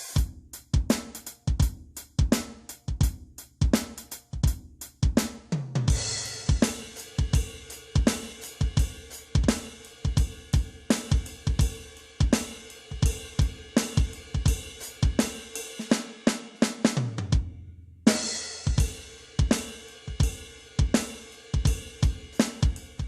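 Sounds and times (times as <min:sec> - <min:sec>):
electronic drum kit groove: 0:00.0 - 0:23.0.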